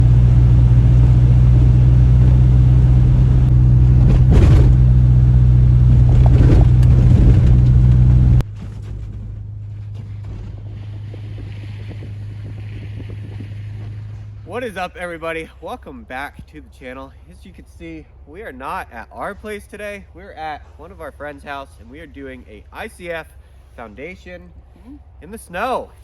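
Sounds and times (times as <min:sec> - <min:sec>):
steady low hum: 0:00.0 - 0:26.0
vehicle engine running: 0:00.0 - 0:26.0.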